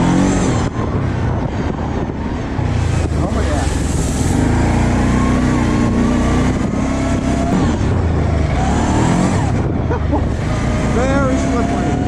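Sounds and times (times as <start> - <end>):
atv engine revving: 0.0 - 12.0.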